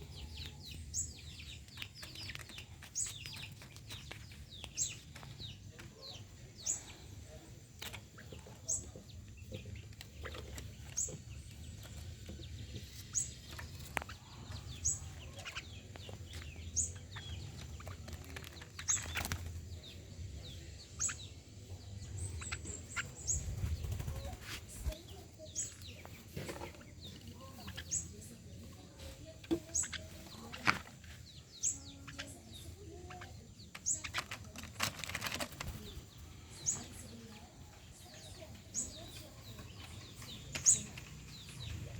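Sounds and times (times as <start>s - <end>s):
other birds chirping faintly: 0.0s - 41.9s.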